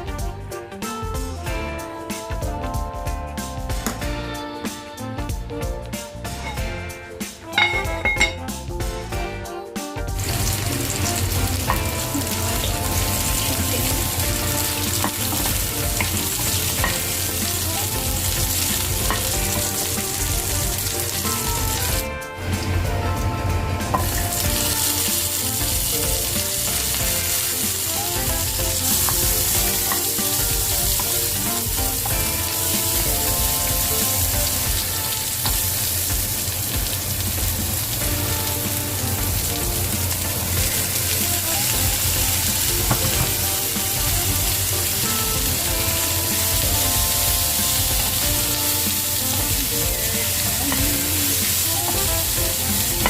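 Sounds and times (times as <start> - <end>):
food sizzling in a hot pan: 6.0 - 53.0.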